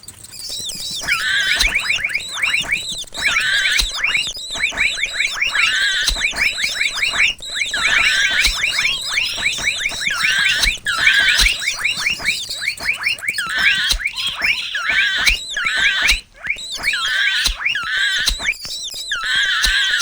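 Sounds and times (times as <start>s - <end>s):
high-pitched mouse squeaks: 0.0s - 20.0s.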